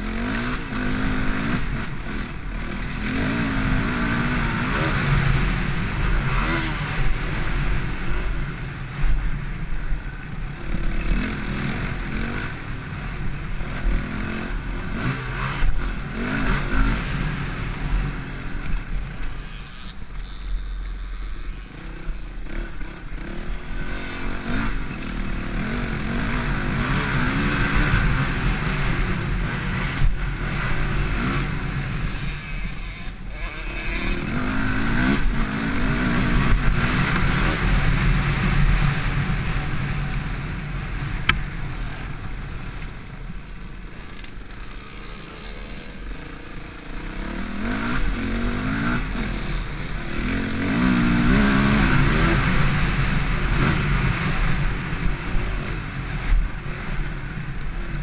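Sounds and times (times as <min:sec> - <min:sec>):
dirt bike engine revving: 0:00.0 - 0:09.3, 0:10.4 - 0:57.9.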